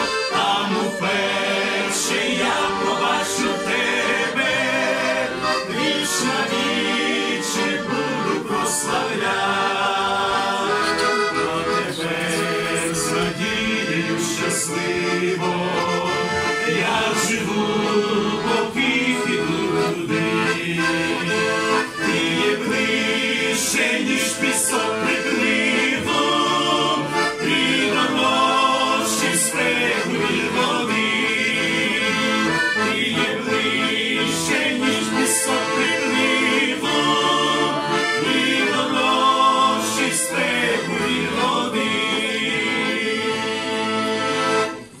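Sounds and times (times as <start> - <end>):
men's group singing a hymn: 0.0 - 44.7
instrumental accompaniment: 0.0 - 45.0.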